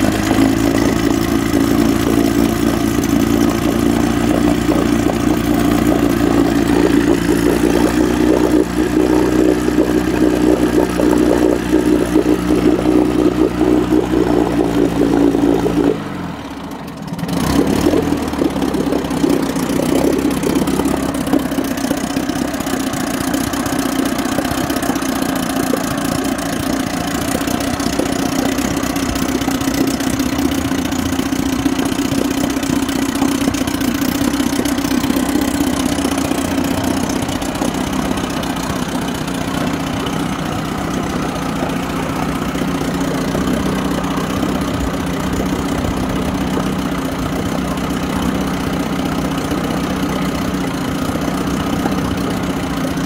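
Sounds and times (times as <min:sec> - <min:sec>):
outboard engine running: 0:00.0 - 0:53.0.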